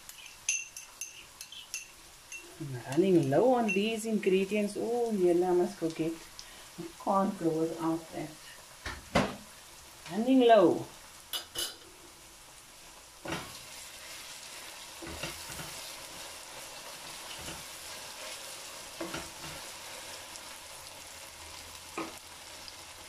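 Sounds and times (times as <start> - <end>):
onions sizzling in hot oil: 0.0 - 23.0.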